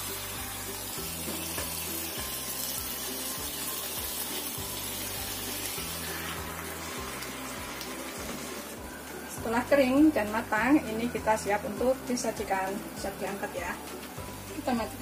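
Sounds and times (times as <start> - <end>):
background music with bass: 0.0 - 15.0
chicken sizzling in a pan: 0.0 - 15.0.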